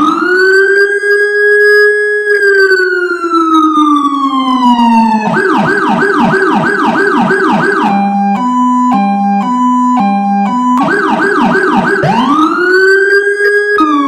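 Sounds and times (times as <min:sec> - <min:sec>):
electronic siren wail: 0:00.0 - 0:14.0
electronic siren yelp: 0:00.0 - 0:14.0
two-tone hi-lo siren: 0:00.0 - 0:14.0.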